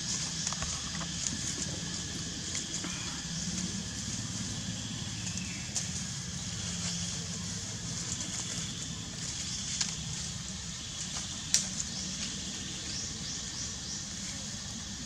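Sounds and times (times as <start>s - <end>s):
high hiss: 0.0s - 15.0s
steady low hum: 0.0s - 15.0s.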